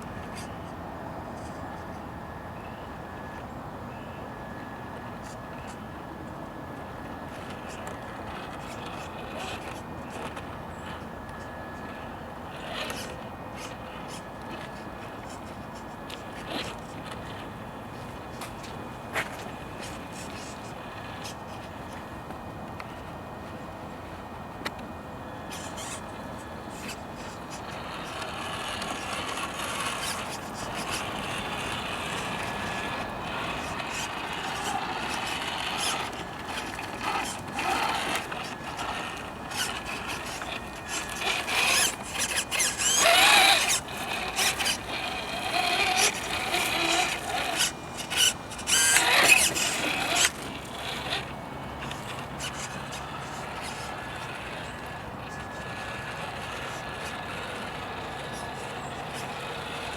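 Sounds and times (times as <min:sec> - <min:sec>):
scrapes clicks and squeals: 0:00.0 - 0:23.6, 0:24.2 - 0:59.9
electric motor and gearbox running: 0:04.7 - 0:59.9.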